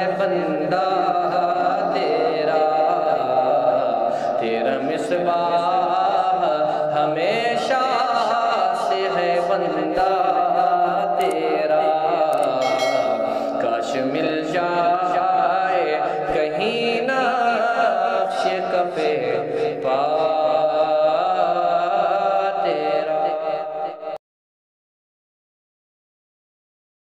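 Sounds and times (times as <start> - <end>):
men chanting: 0.0 - 23.7
lead voice singing: 0.0 - 24.2.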